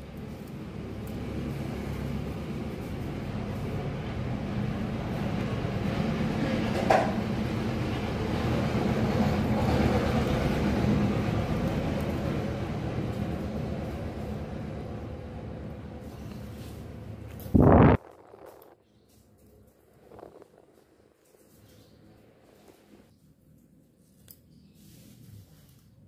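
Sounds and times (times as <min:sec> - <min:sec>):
low engine rumble: 0:00.0 - 0:21.3.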